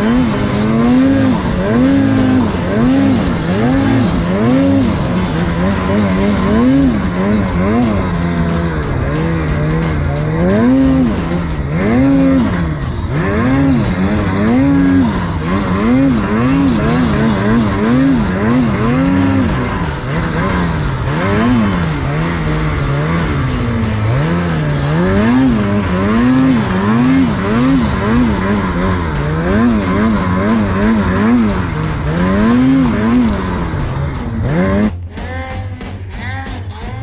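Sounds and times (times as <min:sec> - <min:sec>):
guitar music: 0:00.0 - 0:37.0
snowmobile engine revving: 0:00.0 - 0:37.0.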